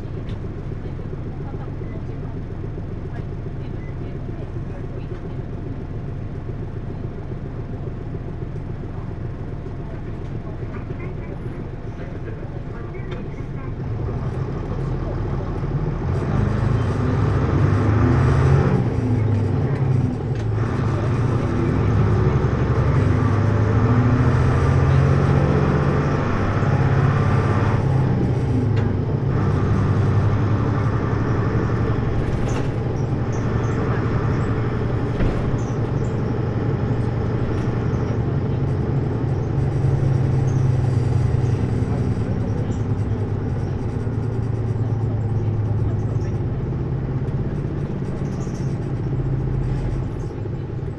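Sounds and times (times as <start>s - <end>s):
bus diesel engine running: 0.0s - 50.9s.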